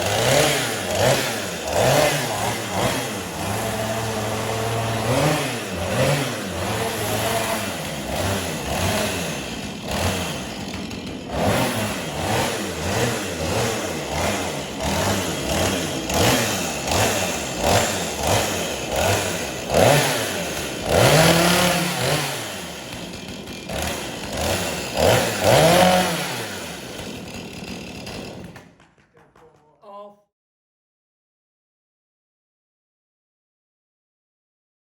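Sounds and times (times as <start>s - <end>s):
chainsaw engine revving: 0.0s - 28.8s.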